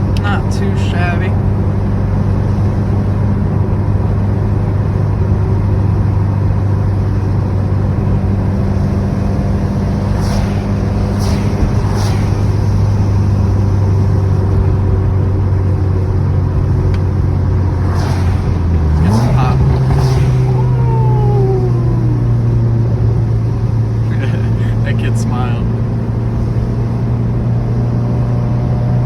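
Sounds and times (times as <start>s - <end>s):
car engine droning at cruise: 0.0s - 29.0s
tyre and road noise: 0.0s - 29.0s.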